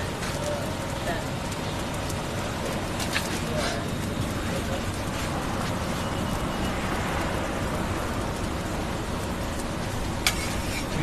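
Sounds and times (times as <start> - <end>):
street food stall background: 0.0 - 11.0.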